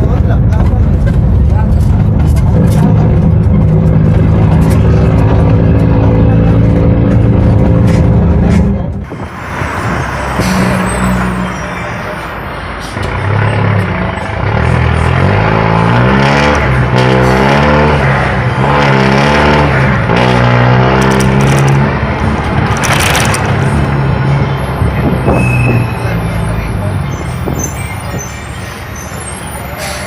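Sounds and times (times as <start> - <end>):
bus diesel engine revving: 0.0 - 30.0.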